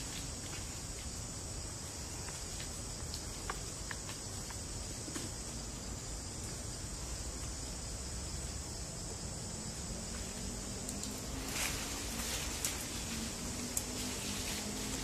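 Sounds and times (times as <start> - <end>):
insect chorus: 0.0 - 15.0
low outdoor rumble: 0.0 - 15.0
rustle: 0.0 - 15.0.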